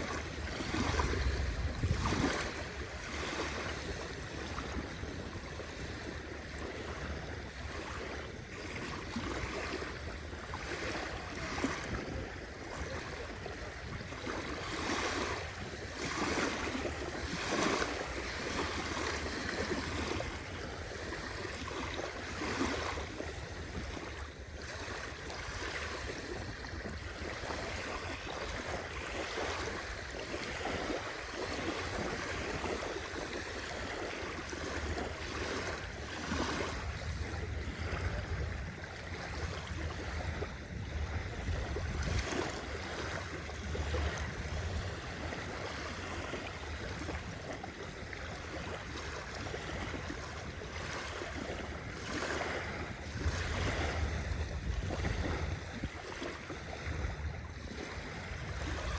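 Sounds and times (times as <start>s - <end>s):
sea waves washing: 0.0s - 58.9s.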